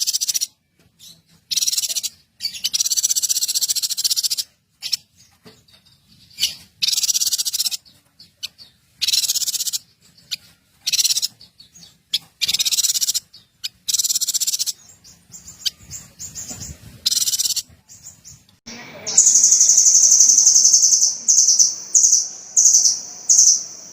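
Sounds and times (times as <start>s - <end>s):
songbird trilling: 0.0s - 0.6s, 1.5s - 5.1s, 6.3s - 23.9s
soft bird chirps: 0.0s - 23.9s.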